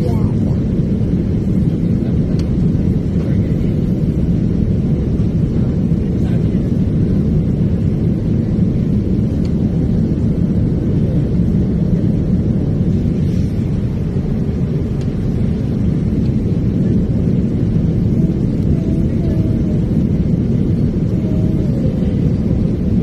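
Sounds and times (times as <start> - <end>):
jet engine rumble in cabin: 0.0 - 23.0
rushing air: 0.0 - 23.0.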